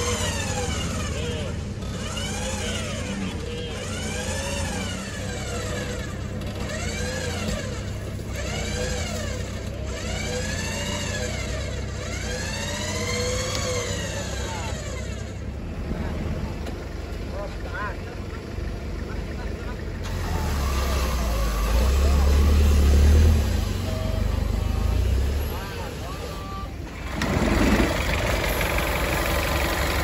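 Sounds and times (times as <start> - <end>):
engine revving: 0.0 - 30.0.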